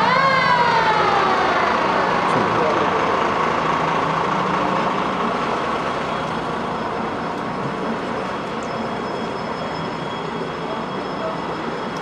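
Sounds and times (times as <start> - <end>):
heavy vehicle engine rumble: 0.0 - 12.0.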